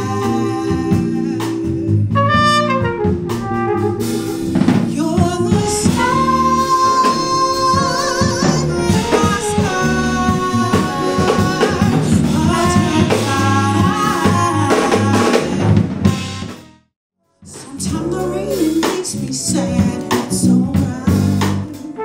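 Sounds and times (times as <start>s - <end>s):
person singing: 0.0s - 3.1s, 4.8s - 15.8s, 17.4s - 22.0s
drum kit: 0.0s - 16.8s, 17.4s - 22.0s
live band music: 0.0s - 22.0s.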